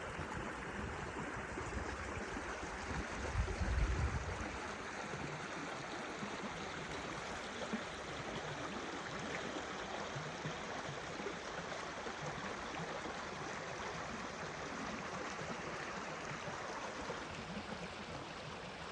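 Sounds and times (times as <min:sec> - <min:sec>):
running water rushing: 0:00.0 - 0:18.9.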